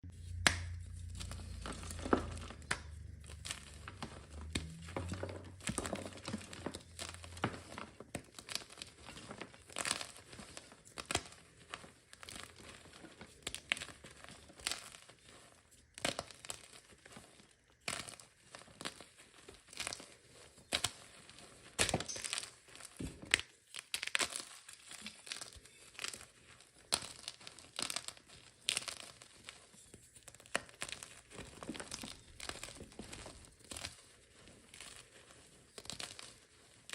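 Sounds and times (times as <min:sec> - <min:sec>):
chalk being crushed: 0:00.1 - 0:36.9.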